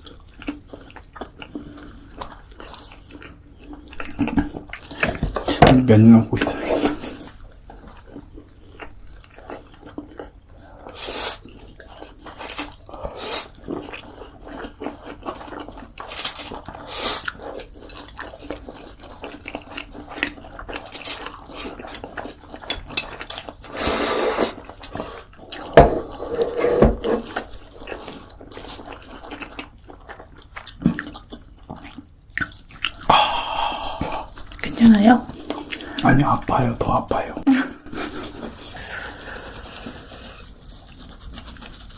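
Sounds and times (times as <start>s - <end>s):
wet chewing and mouth noises: 0.0s - 5.5s, 6.4s - 26.2s, 27.2s - 36.3s, 38.2s - 41.9s.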